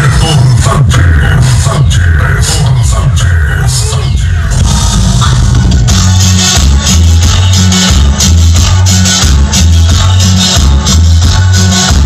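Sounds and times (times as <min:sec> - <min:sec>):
cumbia music over sound system: 0:00.0 - 0:12.0.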